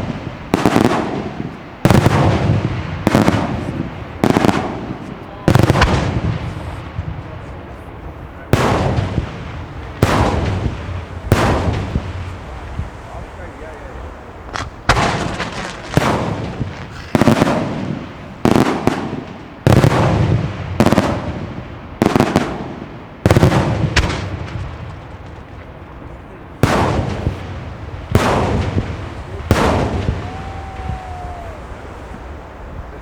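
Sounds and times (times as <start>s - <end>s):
fireworks bursting with echoes: 0.0s - 33.0s.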